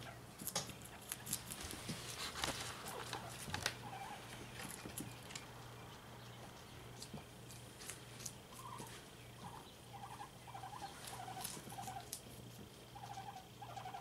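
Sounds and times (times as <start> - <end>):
guinea pigs squeaking: 0.0 - 14.0.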